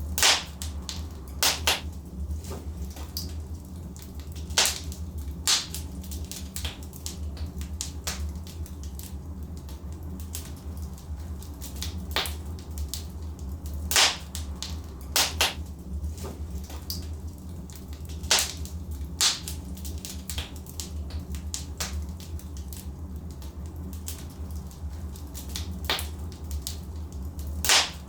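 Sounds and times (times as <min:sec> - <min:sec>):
burning logs crackling and popping: 0:00.0 - 0:28.0
steady low rumble: 0:00.0 - 0:28.0.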